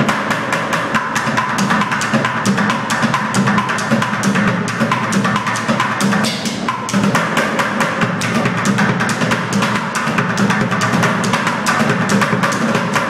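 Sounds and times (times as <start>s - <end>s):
sticks drumming on plastic buckets: 0.0s - 13.0s.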